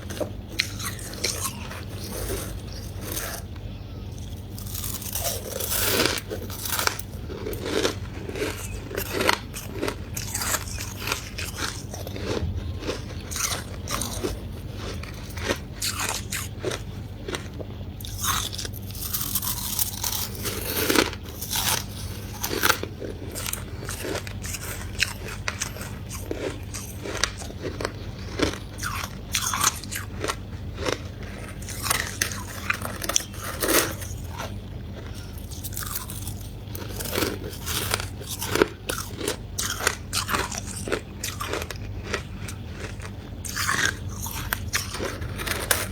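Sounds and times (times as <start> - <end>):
chewing ice crunches: 0.0 - 3.5, 4.2 - 45.9.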